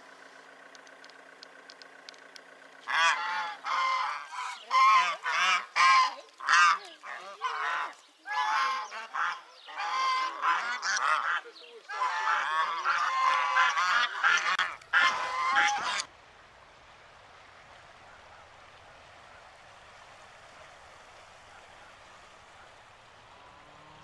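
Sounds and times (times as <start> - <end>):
geese honking: 2.8 - 16.1, 17.7 - 24.0.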